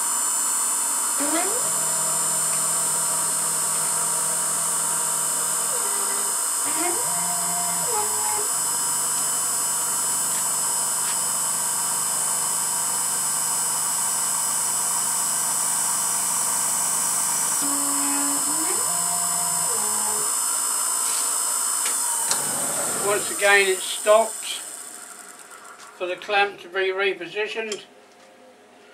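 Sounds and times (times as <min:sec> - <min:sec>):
spindle motor humming and hissing: 0:00.0 - 0:26.1
stepper motors whirring: 0:01.0 - 0:20.5, 0:21.3 - 0:26.2.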